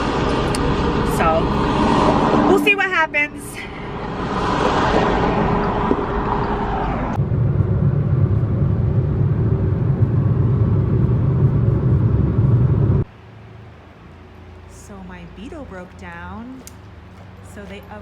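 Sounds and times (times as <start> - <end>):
low engine and road rumble: 0.0 - 18.0
vehicle passing: 0.0 - 18.0.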